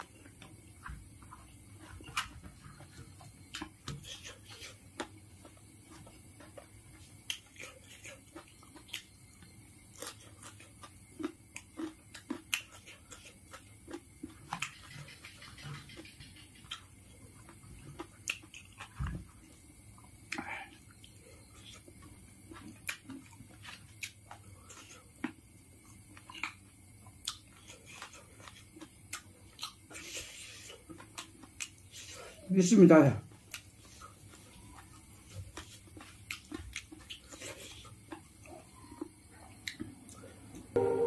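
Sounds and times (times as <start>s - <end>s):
man chewing with mouth smacks: 0.0s - 32.5s, 33.2s - 40.7s.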